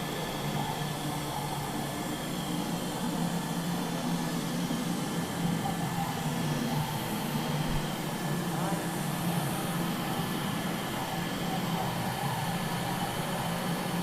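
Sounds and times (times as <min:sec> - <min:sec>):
cooling system hum and hiss: 0:00.0 - 0:14.0.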